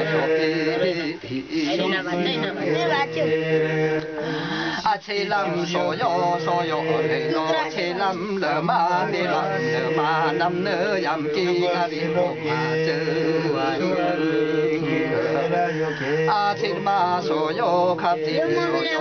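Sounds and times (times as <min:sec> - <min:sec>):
voices chanting together: 0:00.0 - 0:19.0.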